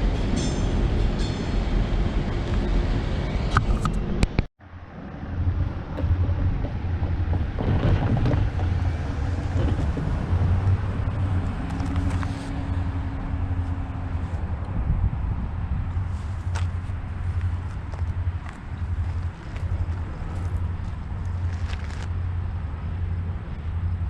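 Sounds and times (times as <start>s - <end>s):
low engine rumble: 0.0s - 24.0s
train passing: 0.0s - 24.0s
wind noise on microphone: 0.0s - 24.0s.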